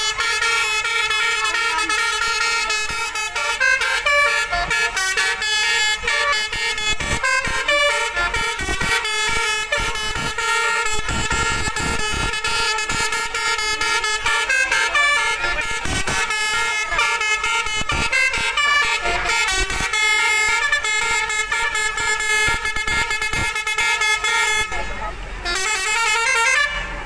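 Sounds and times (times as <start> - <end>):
bus air horn playing notes: 0.0 - 27.0.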